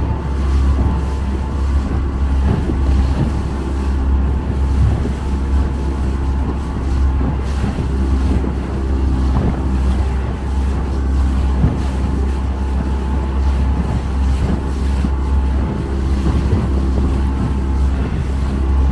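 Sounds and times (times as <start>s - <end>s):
motorboat engine drone: 0.0s - 18.9s
water rushing: 0.0s - 18.9s.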